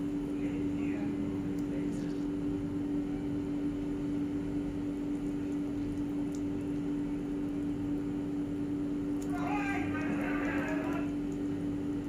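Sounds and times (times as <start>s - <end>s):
appliance motor humming: 0.0s - 12.0s.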